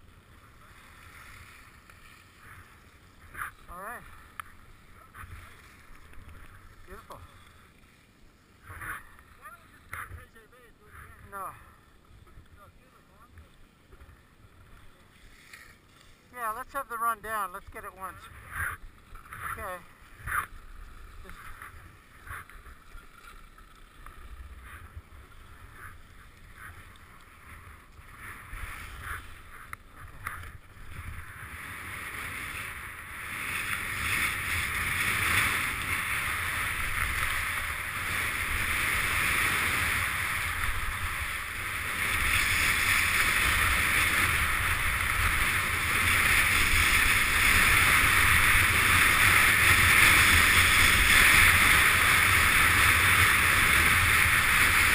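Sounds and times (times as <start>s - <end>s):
skis scraping over snow: 0.0s - 54.9s.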